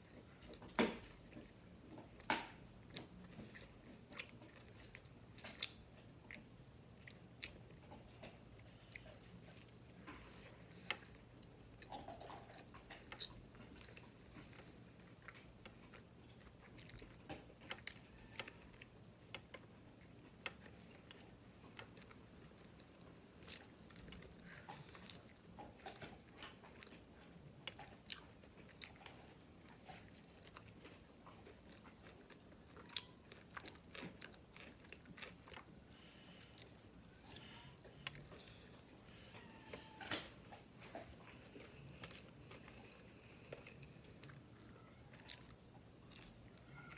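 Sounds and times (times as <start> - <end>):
person chewing: 0.0 - 46.9.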